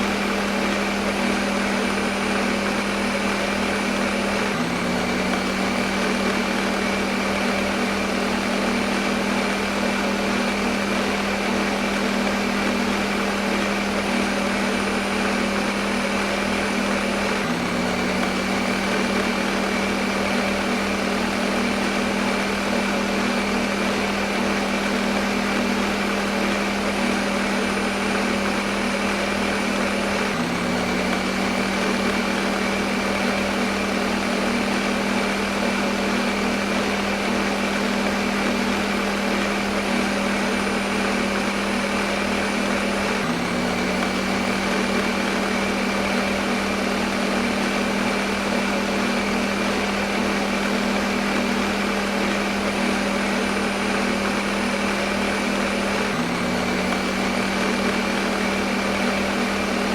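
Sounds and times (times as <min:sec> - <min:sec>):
kitchen blender running: 0:00.0 - 0:59.9.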